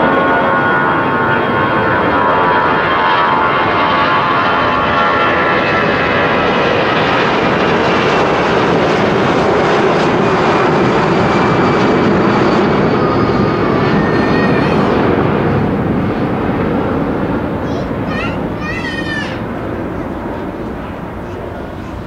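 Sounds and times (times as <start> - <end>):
jet engines roaring: 0.0 - 22.0
whining fan tones: 0.0 - 22.0.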